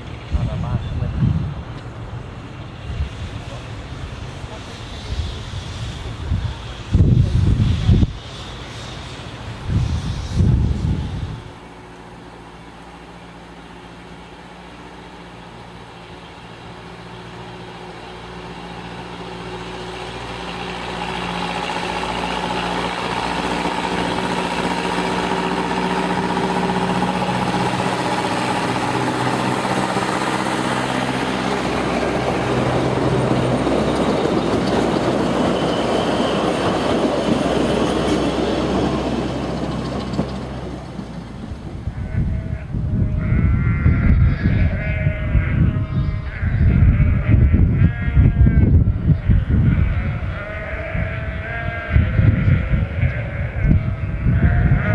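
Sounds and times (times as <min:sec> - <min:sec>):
train passing on rails: 0:00.0 - 0:54.9.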